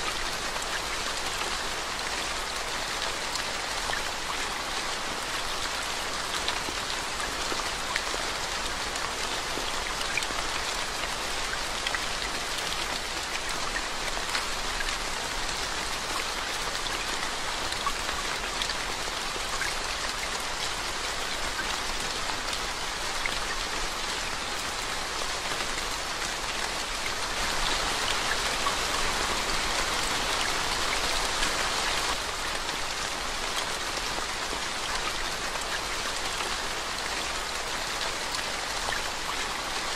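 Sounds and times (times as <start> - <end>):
rain splashing into standing water: 0.0 - 39.9.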